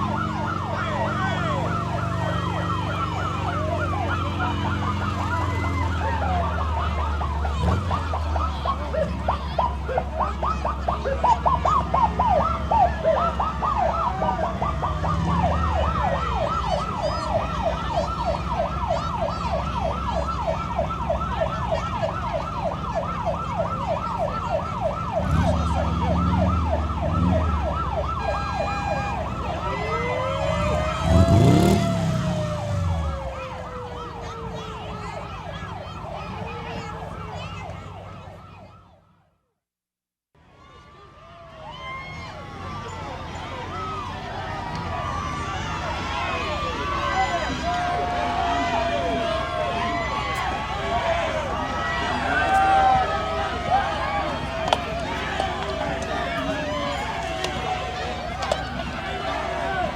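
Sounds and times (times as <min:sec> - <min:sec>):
heavy vehicle engine rumble: 0:00.0 - 0:38.8, 0:40.9 - 0:59.9
emergency siren yelping: 0:00.0 - 0:39.1, 0:41.5 - 0:59.9.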